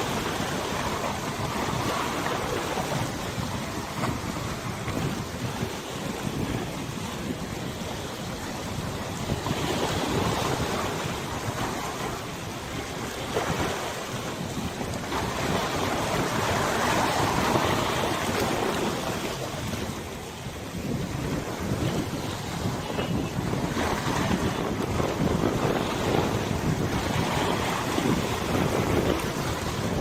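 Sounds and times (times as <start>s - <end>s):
river water lapping: 0.0s - 30.0s
wind gusting across microphone: 0.0s - 30.0s.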